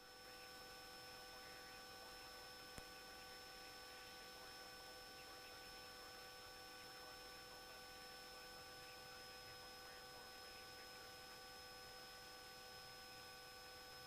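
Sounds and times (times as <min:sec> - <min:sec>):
thin electrical tones: 0:00.0 - 0:14.0.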